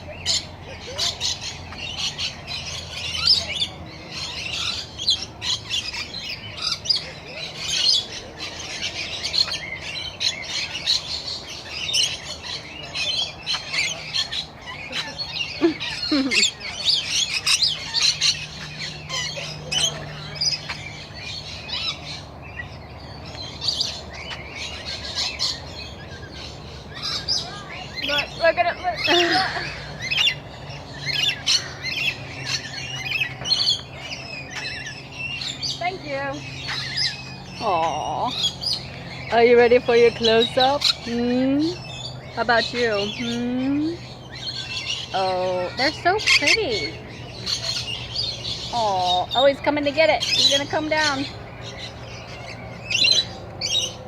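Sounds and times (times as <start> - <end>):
flock of parrots chirping and screeching: 0.0 - 54.0.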